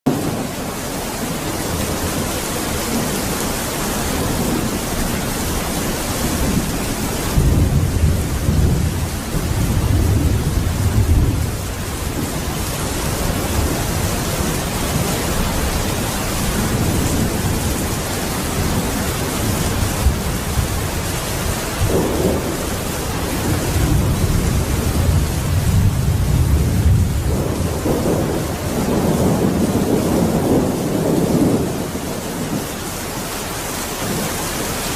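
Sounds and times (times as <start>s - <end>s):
heavy rain pouring: 0.1s - 34.9s
thunder rumbling: 0.1s - 34.9s.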